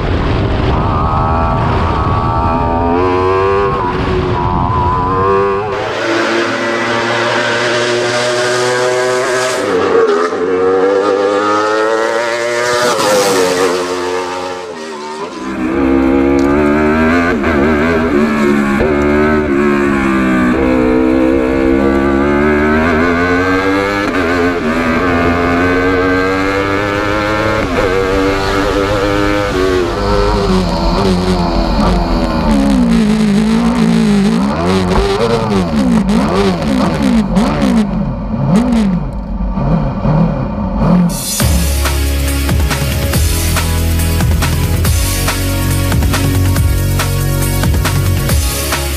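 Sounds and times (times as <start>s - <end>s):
race car engine at full throttle: 0.0s - 48.9s
road and wind rumble: 0.0s - 48.9s.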